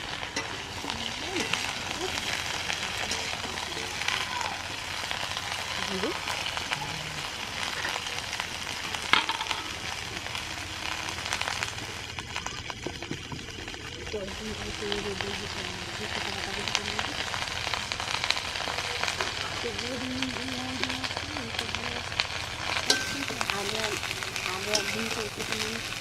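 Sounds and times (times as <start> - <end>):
food sizzling in hot oil: 0.0 - 26.0
oil crackles: 0.0 - 26.0.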